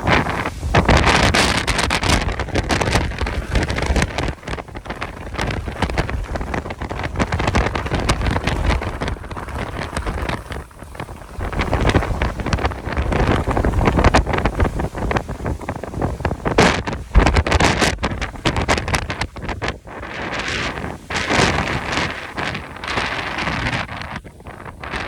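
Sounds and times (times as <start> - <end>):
gusty wind buffeting microphone: 0.0 - 25.0.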